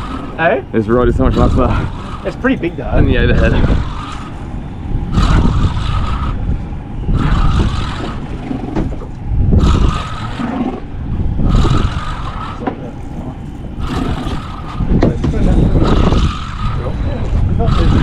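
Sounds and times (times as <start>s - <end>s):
boat engine running: 0.0s - 18.0s
wind noise: 0.0s - 18.0s.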